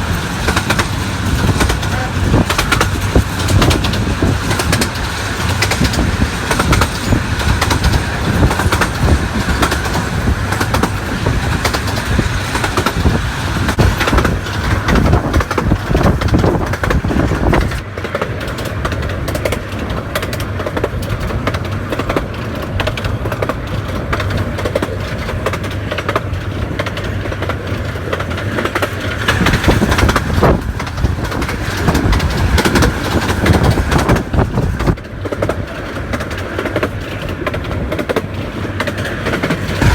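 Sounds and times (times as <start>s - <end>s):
miniature train rumbling and clattering: 0.0s - 39.9s.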